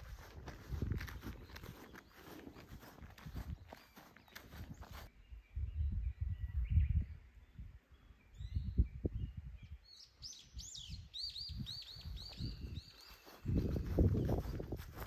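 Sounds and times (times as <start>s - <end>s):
songbird whistles and chirps: 0.7s - 15.0s.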